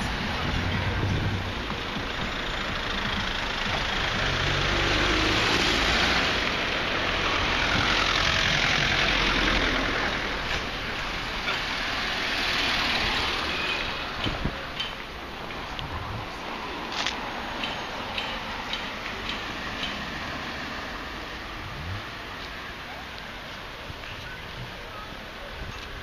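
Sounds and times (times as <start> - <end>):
car engines passing: 0.0 - 26.0.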